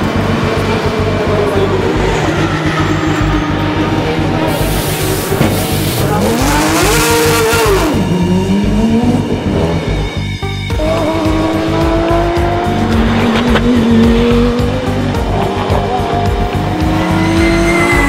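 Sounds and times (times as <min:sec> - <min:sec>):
background music with steady beat: 0:00.0 - 0:18.0
racing car engines revving: 0:00.0 - 0:18.0.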